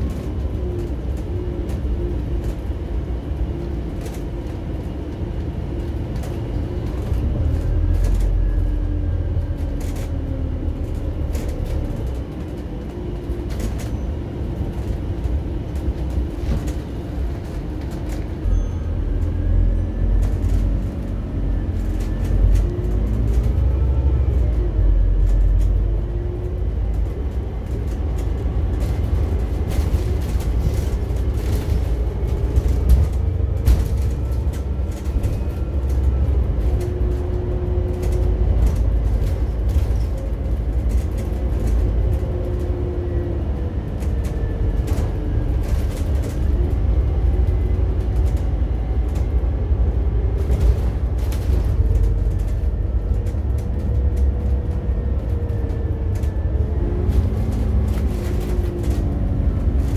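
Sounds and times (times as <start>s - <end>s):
bus engine and road rumble: 0.0s - 59.9s
rattles and knocks from bus body: 0.0s - 59.9s.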